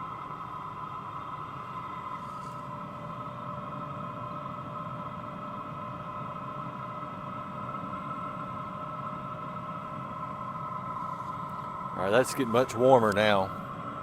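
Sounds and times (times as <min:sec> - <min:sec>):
heater blower whine: 0:00.0 - 0:14.0.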